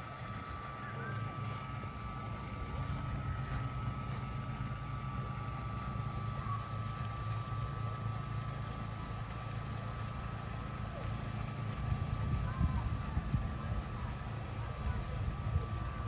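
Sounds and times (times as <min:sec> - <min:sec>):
low motor hum: 0:00.0 - 0:16.0
thin whine: 0:00.0 - 0:16.0.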